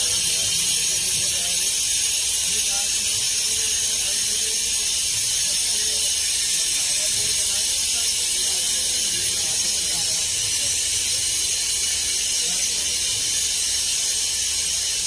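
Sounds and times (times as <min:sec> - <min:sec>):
train hissing: 0:00.0 - 0:15.0.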